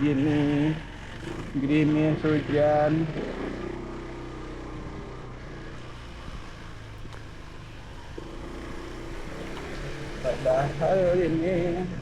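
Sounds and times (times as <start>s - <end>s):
motorcycle engine hum: 0.0s - 12.0s
road noise hiss: 0.0s - 12.0s.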